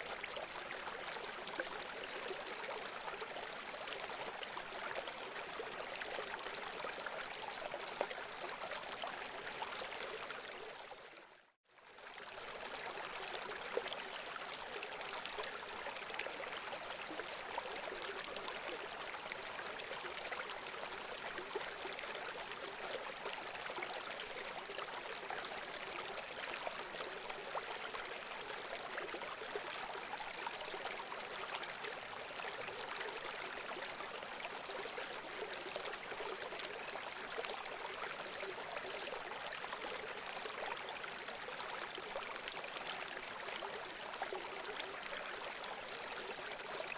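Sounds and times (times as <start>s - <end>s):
running water babbling: 0.0s - 46.9s.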